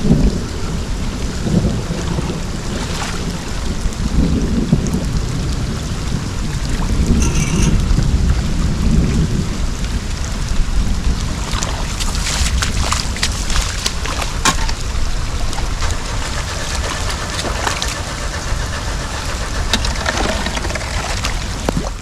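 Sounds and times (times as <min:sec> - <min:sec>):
floodwater rushing and splashing: 0:00.0 - 0:22.0
wind rumbling on microphone: 0:00.0 - 0:22.0.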